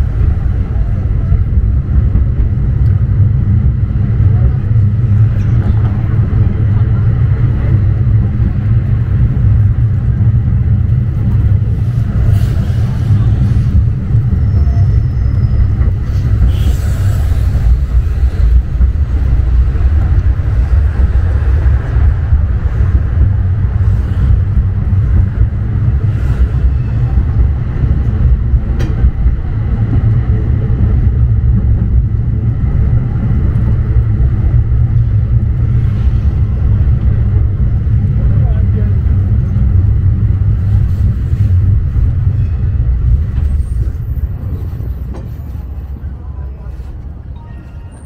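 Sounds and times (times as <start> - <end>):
tram rumbling on rails: 0.0 - 48.0.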